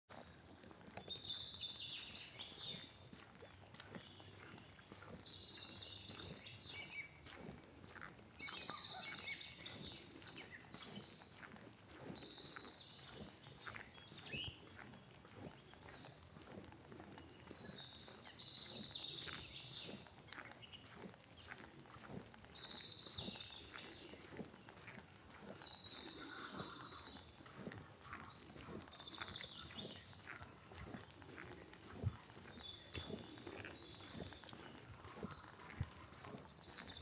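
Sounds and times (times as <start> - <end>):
footsteps on a path: 0.1 - 37.0
birds singing: 0.2 - 37.0.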